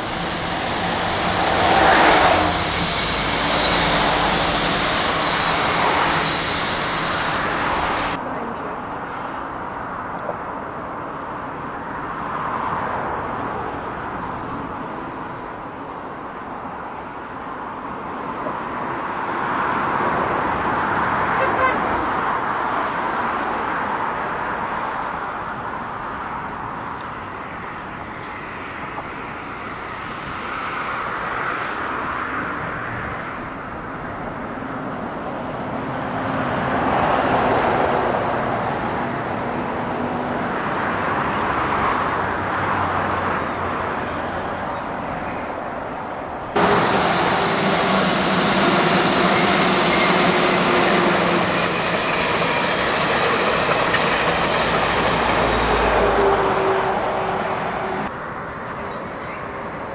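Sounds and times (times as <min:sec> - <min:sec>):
passing road traffic hiss: 0:00.0 - 0:59.9.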